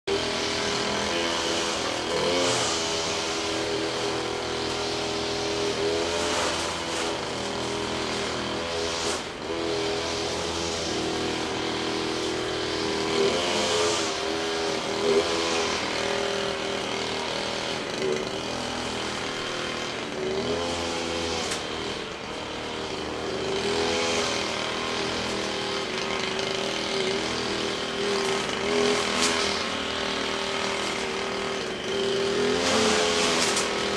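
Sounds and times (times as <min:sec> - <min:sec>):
brush cutter engine revving: 0:00.0 - 0:33.9.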